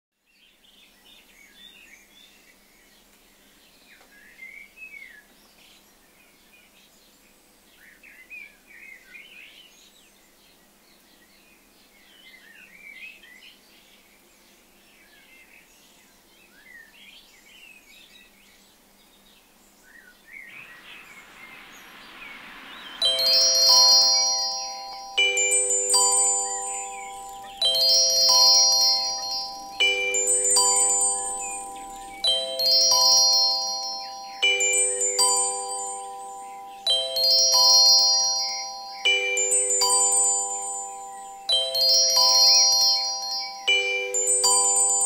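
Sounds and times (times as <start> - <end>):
outdoor ambient hiss: 0.1 - 45.0
small birds chirping: 0.3 - 45.0.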